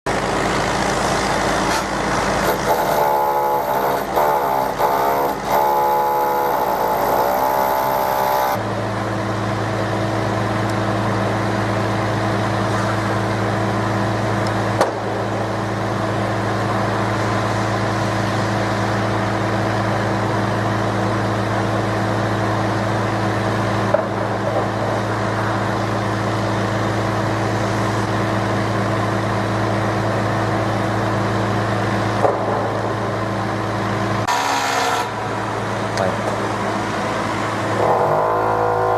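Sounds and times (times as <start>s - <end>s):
motor humming: 0.1s - 38.9s.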